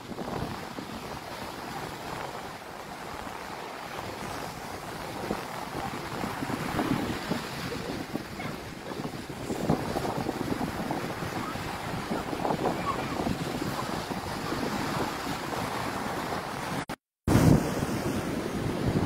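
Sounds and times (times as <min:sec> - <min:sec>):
surf: 0:00.0 - 0:19.0
wind buffeting microphone: 0:00.0 - 0:19.0.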